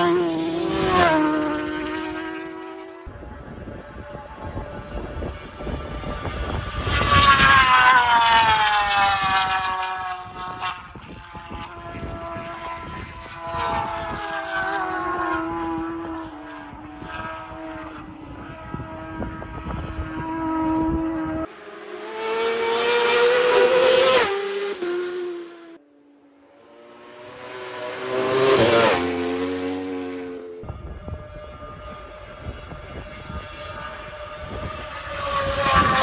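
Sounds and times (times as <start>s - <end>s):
racing motorcycles passing by: 0.0s - 36.0s.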